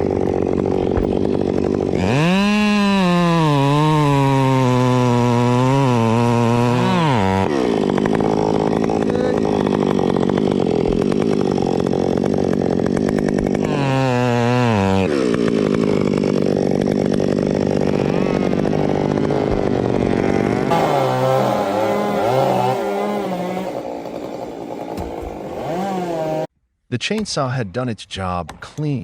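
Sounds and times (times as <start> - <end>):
chainsaw running: 0.0 - 26.5.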